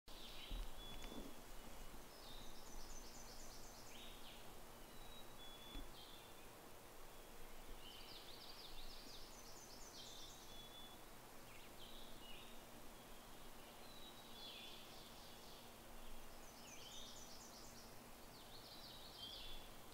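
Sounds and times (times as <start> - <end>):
background hiss: 0.1 - 19.9
songbirds singing: 0.1 - 19.9.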